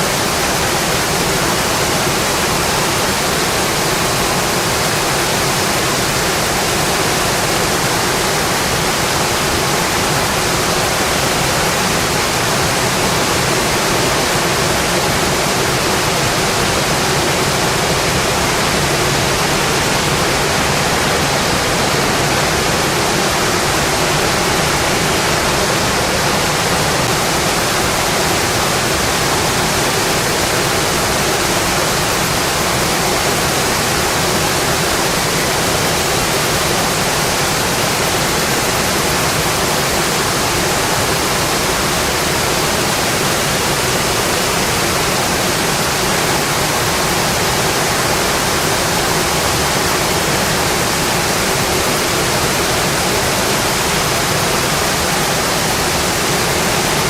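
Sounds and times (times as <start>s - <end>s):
heavy rainfall: 0.0s - 57.0s.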